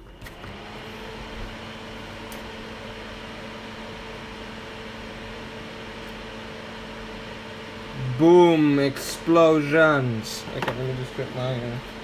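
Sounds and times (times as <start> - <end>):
blower fan humming: 0.0 - 12.0.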